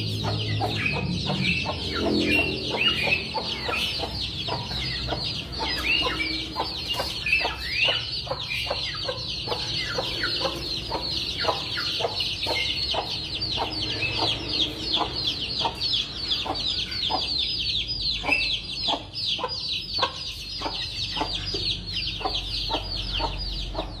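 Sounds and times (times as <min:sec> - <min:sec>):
chickens clucking: 0:00.0 - 0:24.0
chickens peeping: 0:00.0 - 0:24.0.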